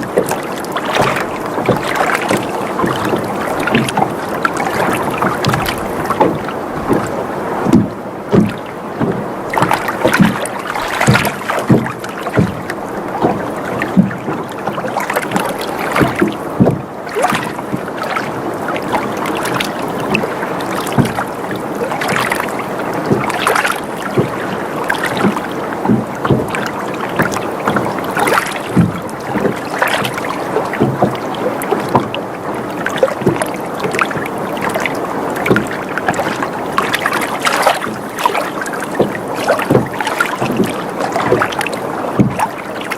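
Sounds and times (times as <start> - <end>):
boat knocking and creaking: 0.0 - 42.9
water sloshing against hull: 0.0 - 42.9.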